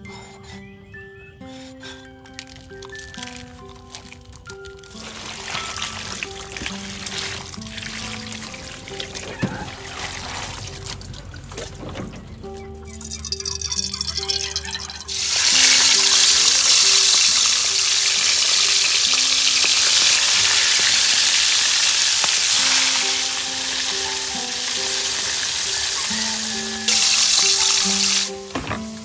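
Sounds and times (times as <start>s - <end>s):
oil trickling into a wok: 2.3s - 11.1s, 13.0s - 28.4s
fish frying sizzle: 2.4s - 11.0s, 13.0s - 28.5s.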